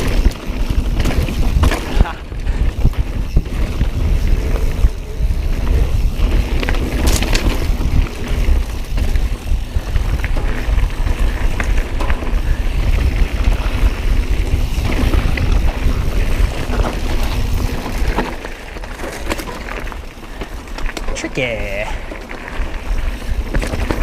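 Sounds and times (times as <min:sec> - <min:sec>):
wind rumble on microphone: 0:00.0 - 0:21.1
bike clicks and rattles: 0:00.0 - 0:24.0
bike tyre noise: 0:00.0 - 0:24.0.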